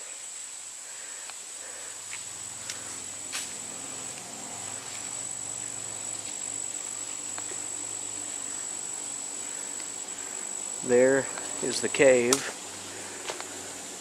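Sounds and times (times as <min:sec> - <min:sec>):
crickets trilling: 0:00.0 - 0:14.0
faint low hum: 0:00.0 - 0:14.0.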